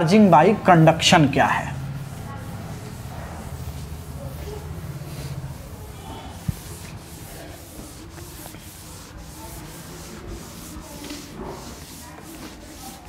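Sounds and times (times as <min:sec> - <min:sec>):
eraser wiping whiteboard: 0:00.8 - 0:13.0.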